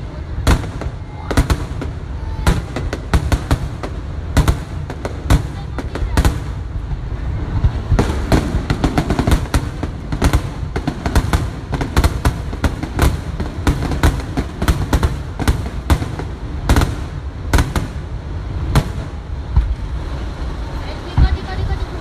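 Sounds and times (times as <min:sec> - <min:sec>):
fireworks bangs and crackles: 0:00.0 - 0:22.0
low rumble of bursts: 0:00.0 - 0:22.0.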